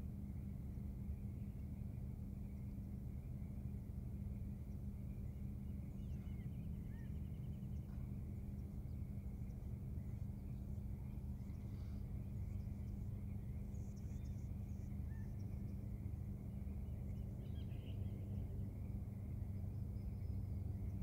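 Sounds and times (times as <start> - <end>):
low outdoor hum: 0.0 - 21.0
faint bird chirps: 1.1 - 21.0.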